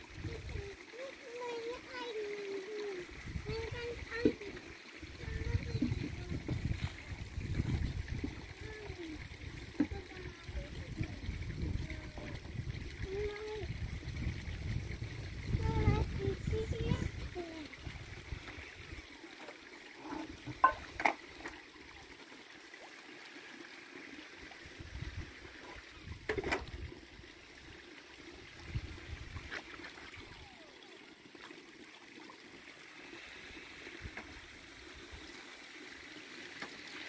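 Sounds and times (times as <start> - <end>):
pond water trickling: 0.0 - 37.0.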